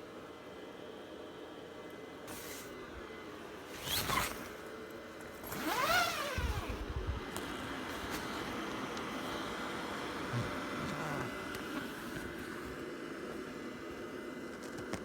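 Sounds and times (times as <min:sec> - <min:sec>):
fan heater whirring: 0:00.0 - 0:15.0.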